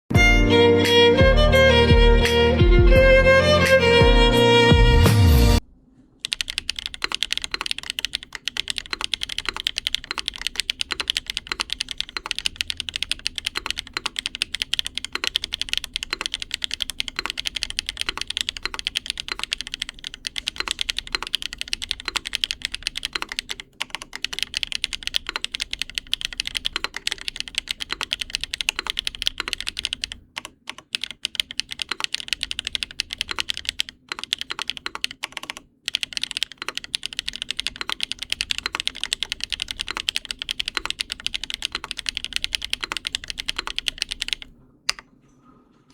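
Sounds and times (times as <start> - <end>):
mechanical keyboard typing: 6.2 - 45.0.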